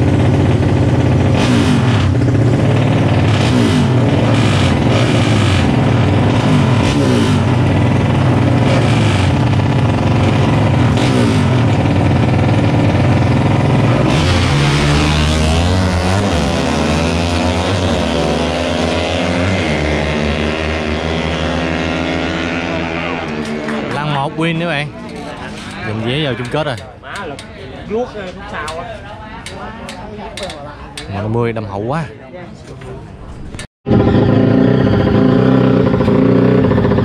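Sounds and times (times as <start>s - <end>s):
motorcycle engines revving: 0.0s - 27.5s, 33.9s - 37.0s.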